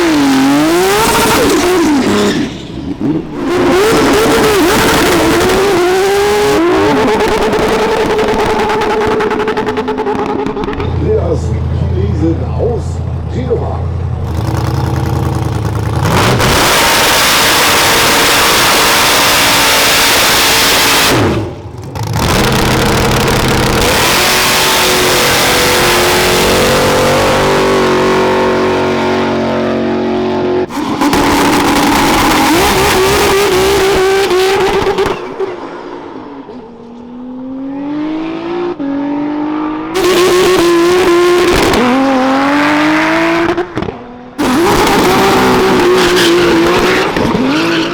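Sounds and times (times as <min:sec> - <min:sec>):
engine revving hard: 0:00.0 - 0:10.6, 0:14.2 - 0:35.4, 0:37.2 - 0:47.9.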